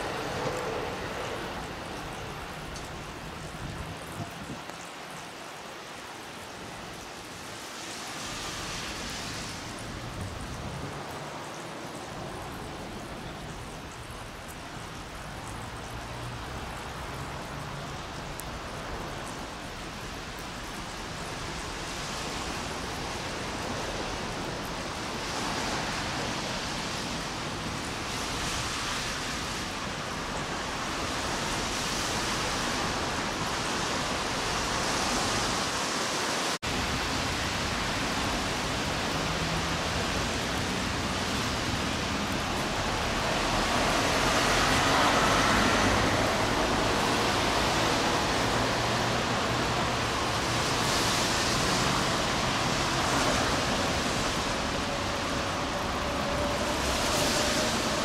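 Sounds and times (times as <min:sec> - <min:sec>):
distant traffic hum: 0:00.0 - 0:58.0
light rain hissing: 0:00.0 - 0:58.0.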